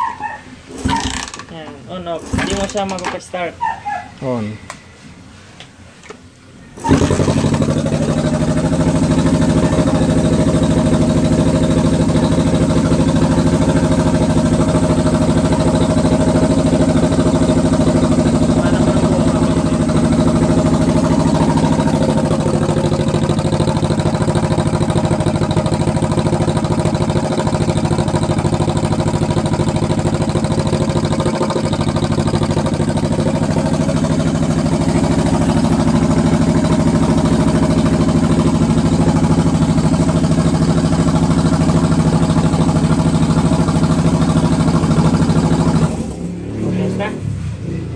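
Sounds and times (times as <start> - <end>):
motorcycle engine idling: 0.8 - 1.6, 6.8 - 46.4.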